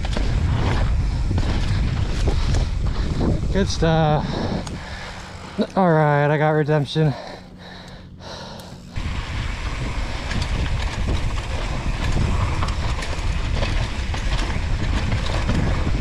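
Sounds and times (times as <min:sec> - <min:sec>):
wind rushing over microphone: 0:00.0 - 0:05.7, 0:08.8 - 0:16.0
bike rumbling and rattling: 0:00.0 - 0:16.0.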